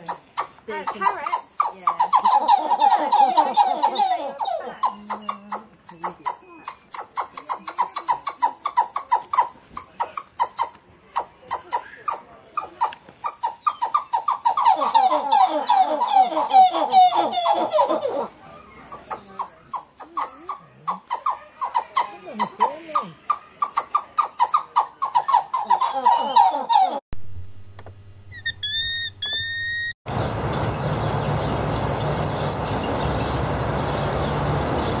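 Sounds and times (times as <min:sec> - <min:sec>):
monkeys chirping and twittering: 0:00.0 - 0:27.0, 0:28.3 - 0:35.0.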